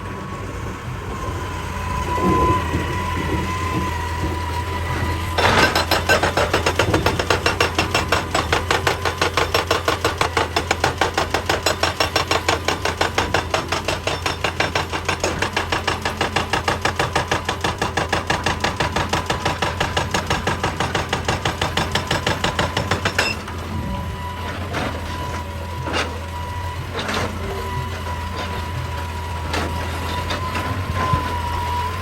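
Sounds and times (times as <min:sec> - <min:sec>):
excavator engine running: 0:00.0 - 0:32.0
hydraulic breaker hammering rock: 0:02.2 - 0:32.0.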